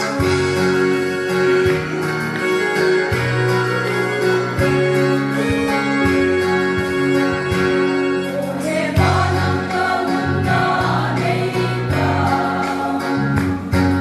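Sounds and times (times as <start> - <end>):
guitar-like notes: 0.0 - 14.0
sustained keyboard and bass chords: 0.0 - 14.0.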